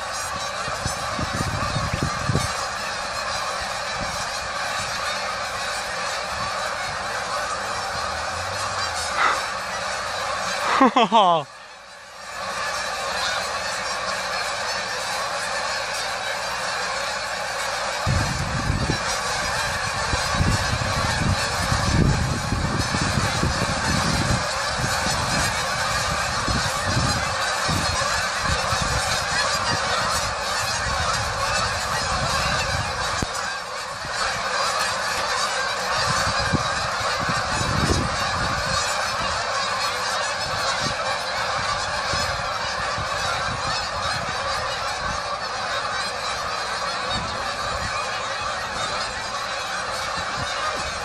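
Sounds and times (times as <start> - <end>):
flock of geese honking: 0.0 - 51.0.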